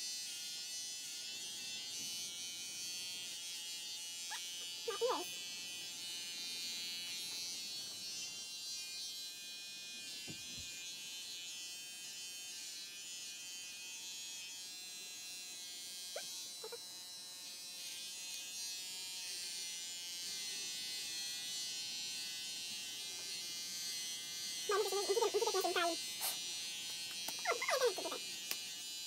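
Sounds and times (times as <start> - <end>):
electric hair clippers buzzing: 0.0 - 29.0.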